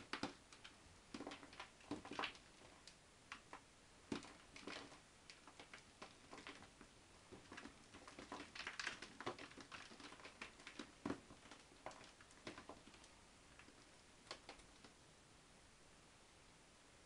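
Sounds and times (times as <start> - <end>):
bark potting mix rustling: 0.0 - 15.0.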